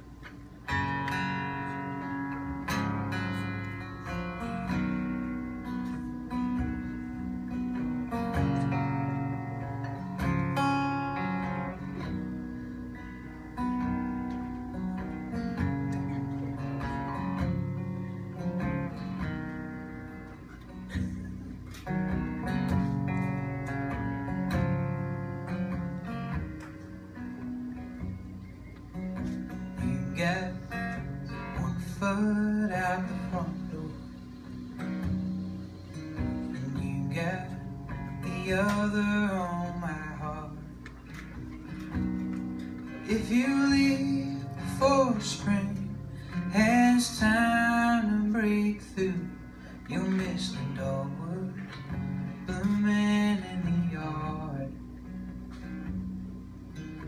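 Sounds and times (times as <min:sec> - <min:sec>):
acoustic guitar strummed chords: 0:00.0 - 0:57.0.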